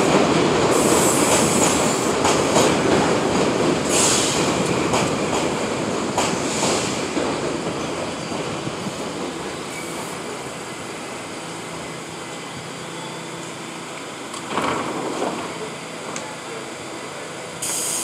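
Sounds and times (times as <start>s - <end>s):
subway train rumbling to a stop: 0.0s - 18.0s
train running hum: 0.0s - 18.0s.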